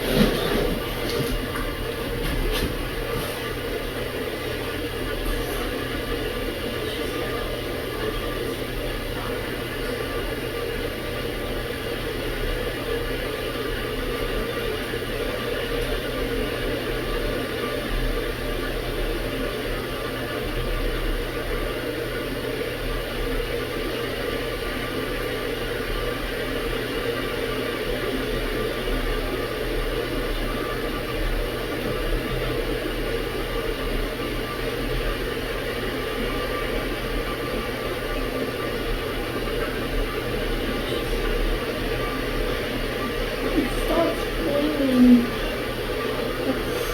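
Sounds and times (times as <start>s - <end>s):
kettle heating water: 0.0s - 46.9s.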